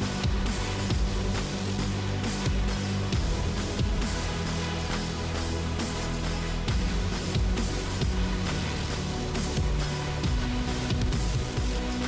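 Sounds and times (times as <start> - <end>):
drum beat: 0.0 - 12.0.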